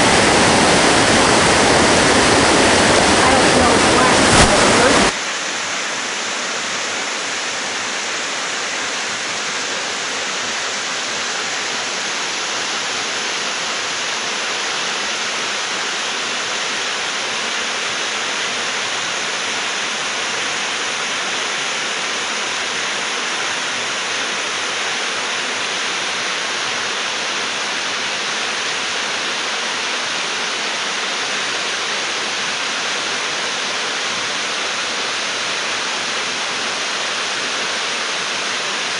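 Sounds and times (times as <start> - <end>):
waterfall rushing over rock: 0.0 - 38.9.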